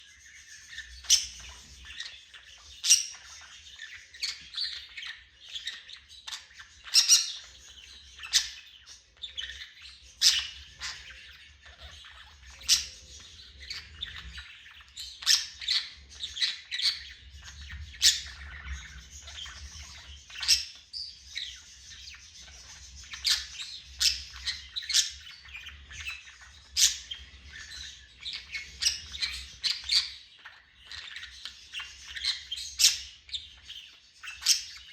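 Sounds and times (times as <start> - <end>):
parrot chirping: 0.5 - 34.9.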